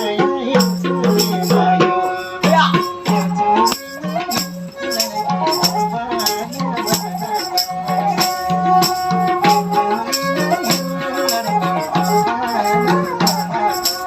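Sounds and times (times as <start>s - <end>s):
rattling percussion: 0.0s - 14.0s
steady drum beat: 0.0s - 14.0s
bowed string sliding melody: 1.0s - 14.0s.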